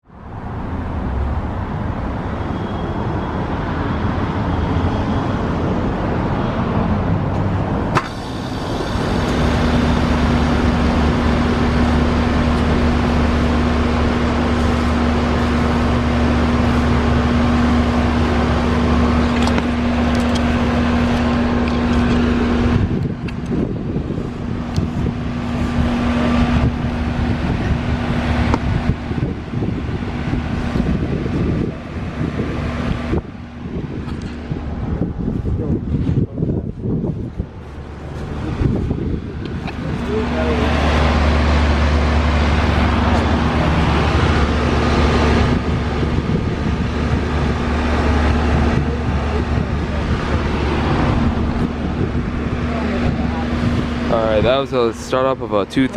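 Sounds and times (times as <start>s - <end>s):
heat pump humming: 7.8s - 55.9s.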